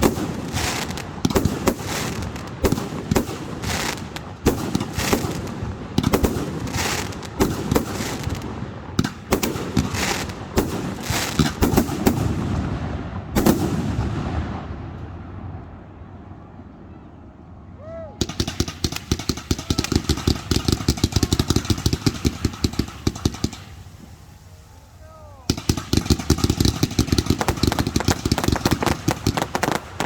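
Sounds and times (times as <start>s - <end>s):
fireworks bangs and crackling: 0.0s - 15.8s, 18.2s - 30.0s.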